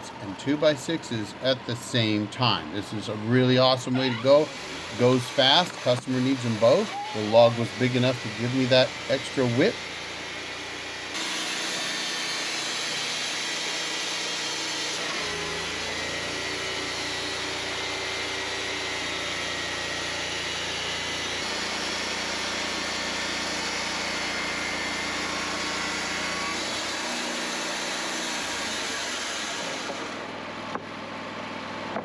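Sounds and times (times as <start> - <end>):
bandsaw mill cutting a log: 0.0 - 32.0.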